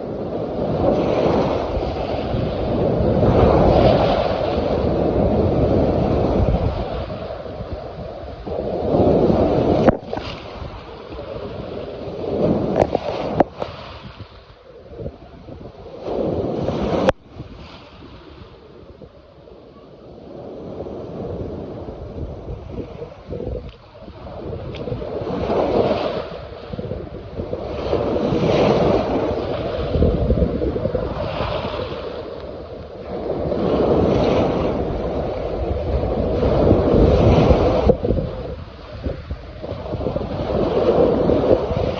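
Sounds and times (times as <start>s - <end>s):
water splashing in waves: 0.0s - 41.9s
wind rumbling on microphone: 0.0s - 41.9s.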